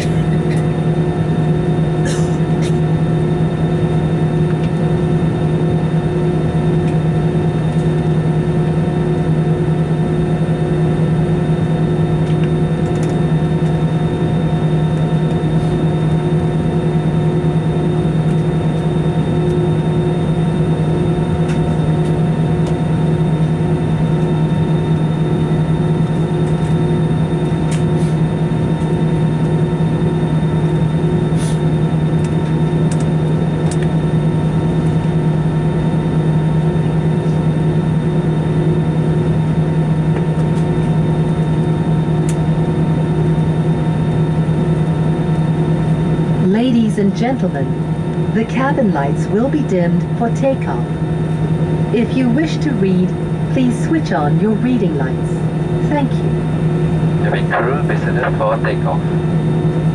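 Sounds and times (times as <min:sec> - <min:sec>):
aircraft engines idling: 0:00.0 - 0:59.9
cabin air running: 0:00.0 - 0:59.9.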